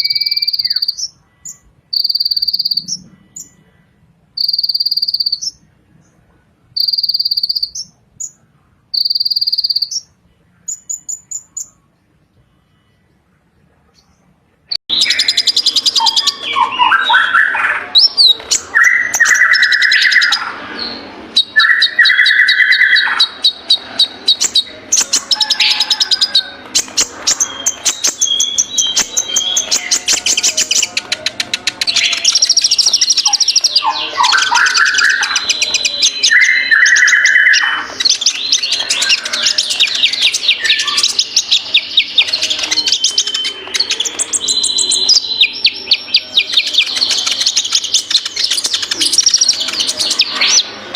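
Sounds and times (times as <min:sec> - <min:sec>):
sunbird singing trills: 0:00.0 - 0:03.7, 0:04.4 - 0:05.7, 0:06.8 - 0:13.0, 0:14.9 - 0:50.7.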